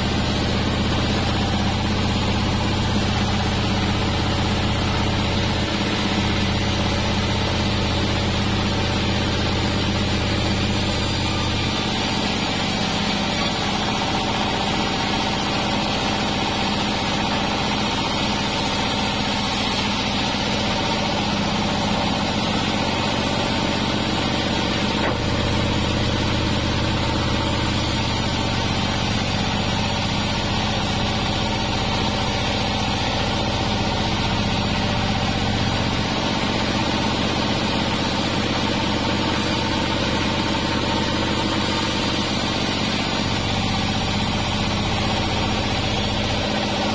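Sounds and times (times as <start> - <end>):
band saw cutting log: 0.0 - 46.9.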